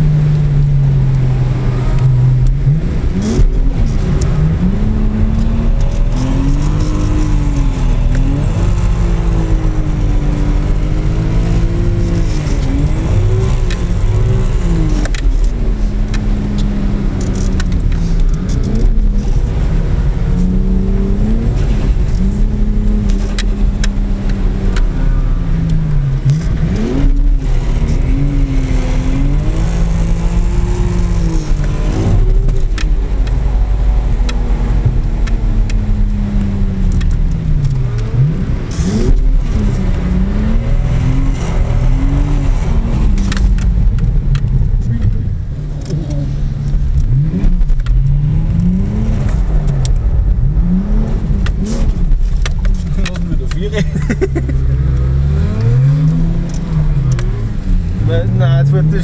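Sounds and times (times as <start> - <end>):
car engine revving: 0.0 - 59.0
low road noise rumble: 0.0 - 59.0.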